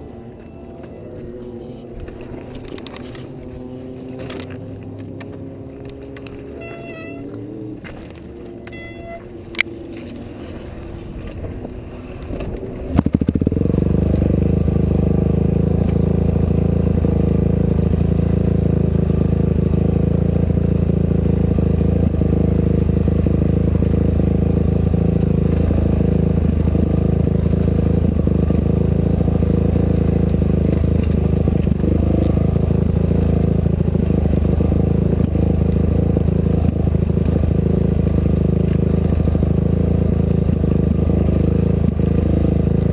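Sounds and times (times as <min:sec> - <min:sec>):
race vehicle engine running: 0:00.0 - 0:42.9.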